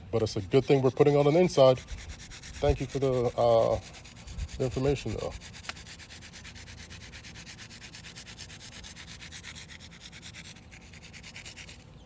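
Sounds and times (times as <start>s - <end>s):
hand rubbing spices into meat: 0.2s - 12.0s.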